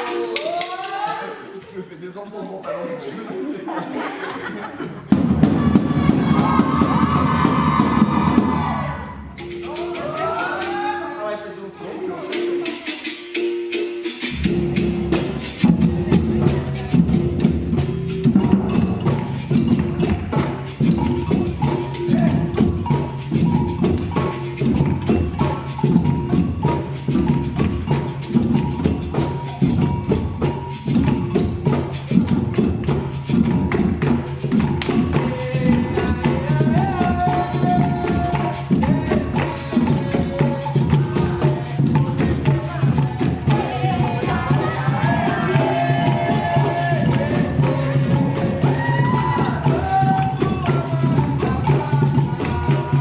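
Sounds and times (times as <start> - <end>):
hand percussion rhythm: 0.0 - 1.6, 5.0 - 53.0.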